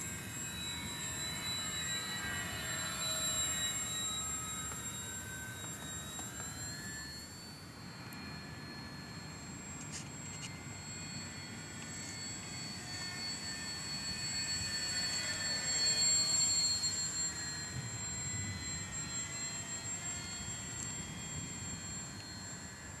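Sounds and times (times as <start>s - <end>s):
model plane motor whining: 0.0s - 23.0s.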